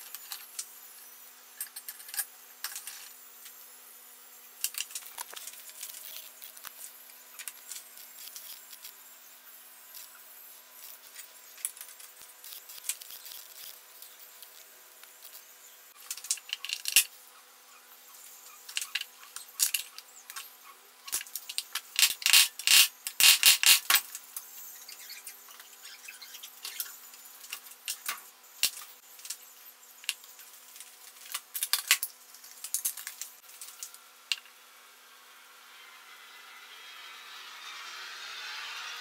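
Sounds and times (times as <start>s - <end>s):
small parts clicking and rattling: 0.0s - 3.6s, 4.6s - 9.2s, 9.8s - 17.3s, 18.2s - 34.6s.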